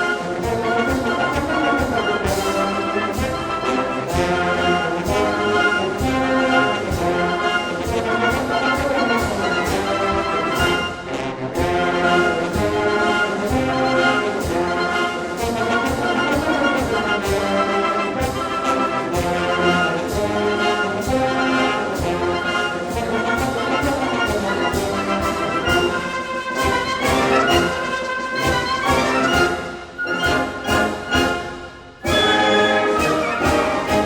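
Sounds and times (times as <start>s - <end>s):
brass playing march tune: 0.0s - 34.0s
march drum beat: 0.0s - 34.0s.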